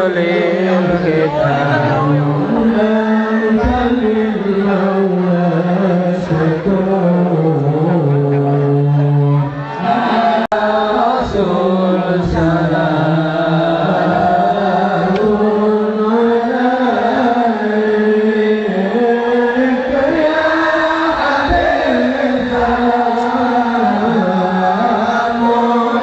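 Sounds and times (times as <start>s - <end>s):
person singing devotional chant: 0.0s - 26.0s.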